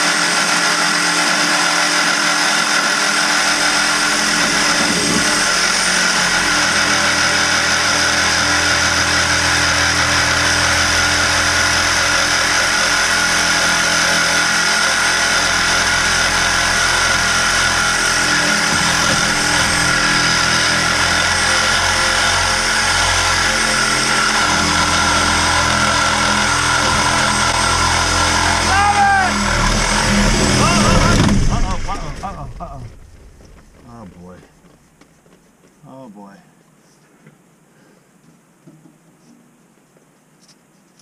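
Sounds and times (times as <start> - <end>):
power tool cutting iron pipe: 0.0 - 33.1.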